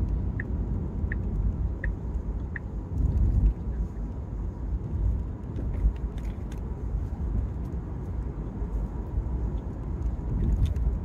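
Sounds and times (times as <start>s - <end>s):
road and tyre rumble in car: 0.0s - 11.0s.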